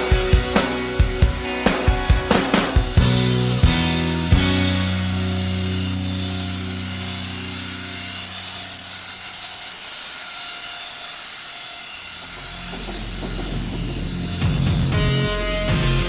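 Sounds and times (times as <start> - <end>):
model helicopter whine: 0.0 - 16.0.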